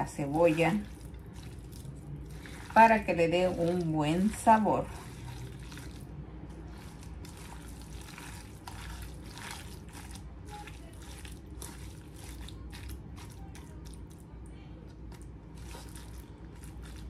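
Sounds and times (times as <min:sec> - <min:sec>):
hands squelching raw meat: 0:00.0 - 0:14.3, 0:14.9 - 0:17.0.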